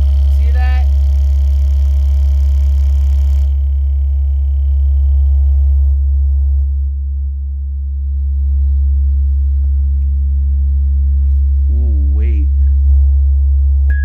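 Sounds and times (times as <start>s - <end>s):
subwoofer playing low sine tone: 0.0s - 14.0s.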